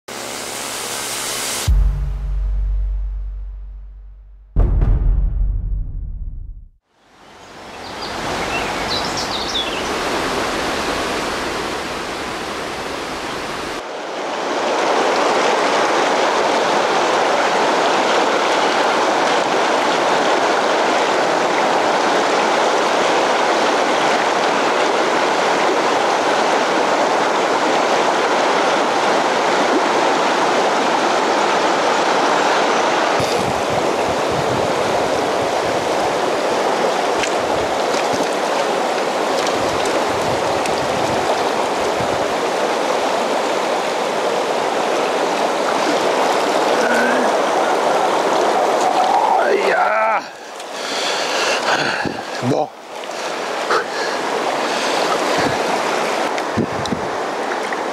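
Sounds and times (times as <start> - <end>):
river rushing over rapids: 7.1 - 57.9.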